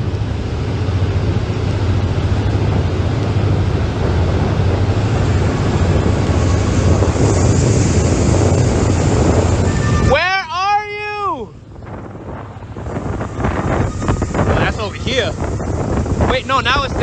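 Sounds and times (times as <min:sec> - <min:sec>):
boat engine droning: 0:00.0 - 0:17.0
boat wake churning: 0:00.0 - 0:17.0
wind on microphone: 0:00.0 - 0:17.0.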